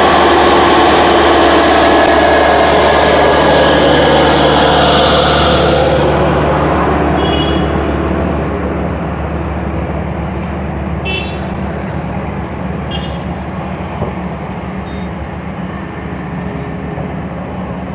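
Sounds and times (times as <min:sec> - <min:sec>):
heavy diesel machinery running: 0:00.0 - 0:17.9.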